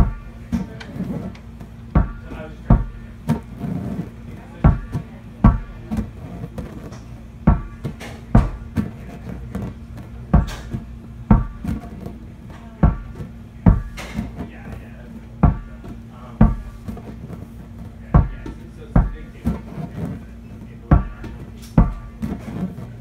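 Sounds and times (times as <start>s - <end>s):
low hum: 0.0s - 18.5s
hard knocks: 0.0s - 23.0s.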